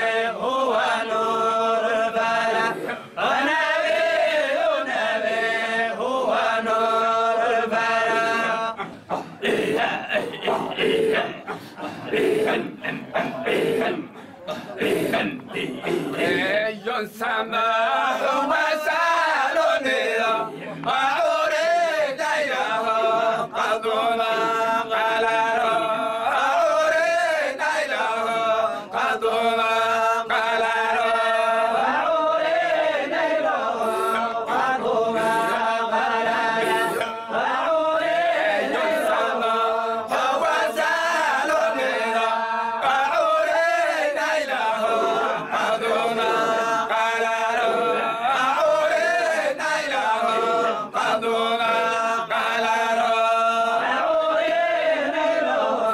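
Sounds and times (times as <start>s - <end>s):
men chanting together: 0.0s - 55.9s.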